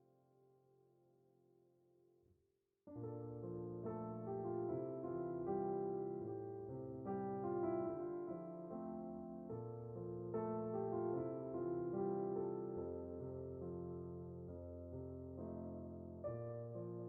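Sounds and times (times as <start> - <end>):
gentle piano music: 2.9 - 17.0.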